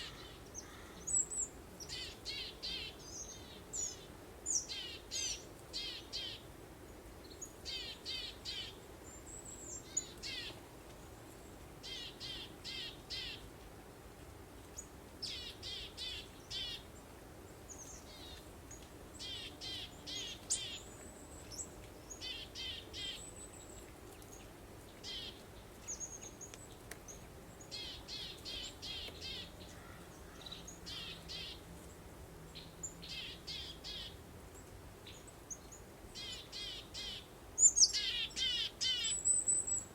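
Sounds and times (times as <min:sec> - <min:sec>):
songbird singing: 0:00.0 - 0:06.5, 0:07.2 - 0:10.6, 0:11.8 - 0:13.4, 0:14.6 - 0:39.9.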